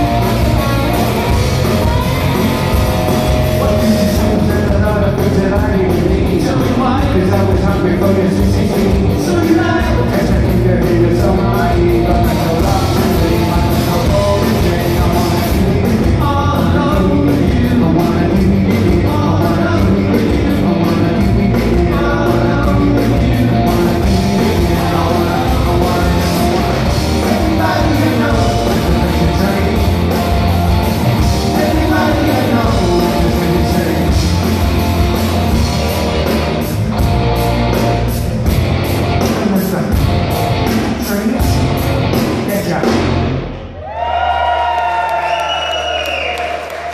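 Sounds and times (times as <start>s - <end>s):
live rock band playing: 0.0s - 43.8s
man singing: 1.2s - 35.8s, 39.2s - 43.2s.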